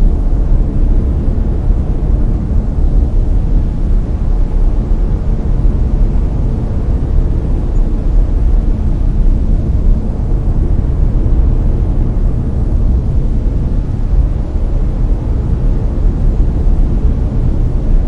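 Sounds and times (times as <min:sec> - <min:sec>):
deep rushing brown noise: 0:00.0 - 0:18.0.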